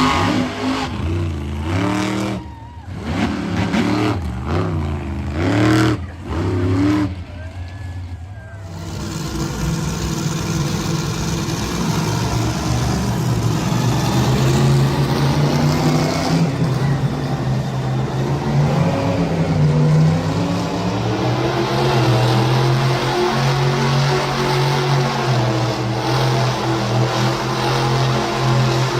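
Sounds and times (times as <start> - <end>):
monster truck engine running: 0.0 - 28.9.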